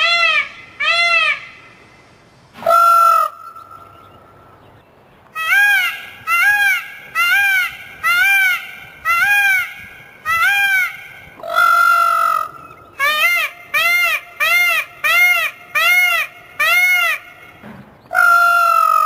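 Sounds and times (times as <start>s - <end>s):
peacock calling: 0.0s - 1.9s, 2.6s - 4.7s, 5.3s - 19.0s.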